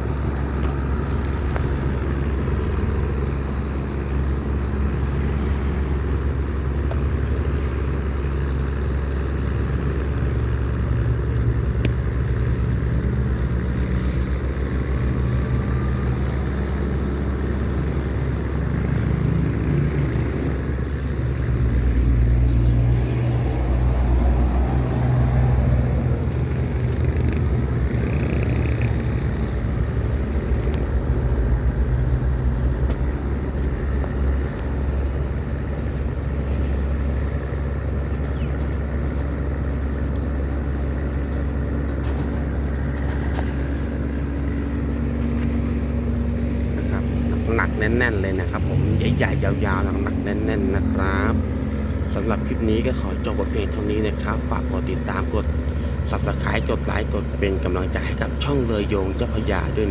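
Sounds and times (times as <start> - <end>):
boat diesel engine running: 0.0 - 59.9.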